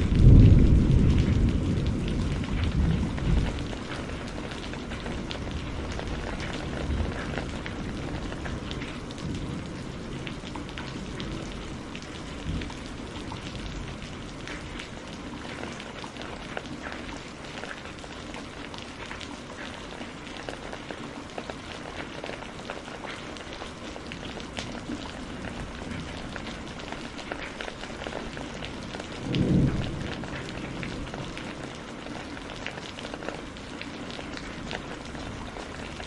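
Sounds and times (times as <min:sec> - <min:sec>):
raindrops ticking on a surface: 0:00.0 - 0:36.0
steady rain falling: 0:00.0 - 0:36.0.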